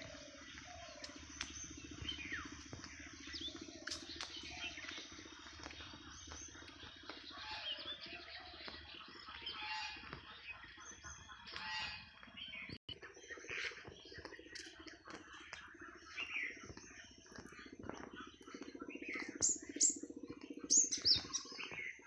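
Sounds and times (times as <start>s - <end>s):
birds chirping in chorus: 0.0s - 22.0s.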